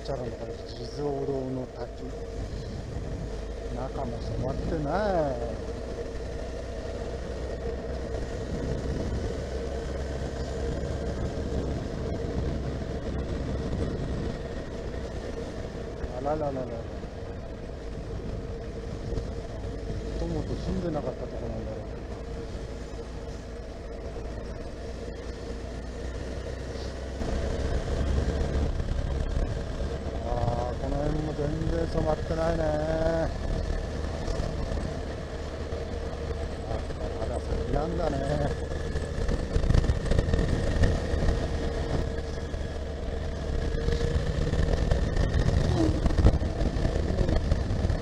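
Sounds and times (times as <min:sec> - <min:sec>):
motorcycle engine cruising: 0:00.0 - 0:48.0
wind and road noise: 0:00.0 - 0:48.0.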